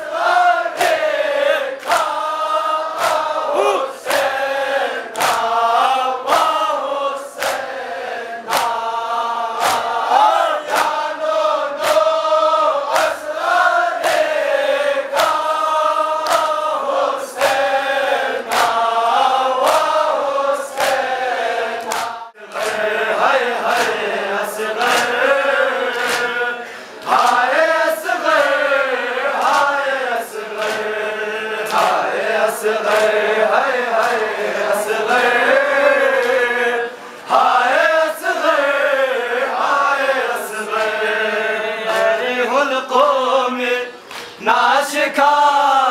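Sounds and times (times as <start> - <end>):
men chanting in unison: 0.0 - 45.9
rhythmic chest-beating: 0.0 - 45.9.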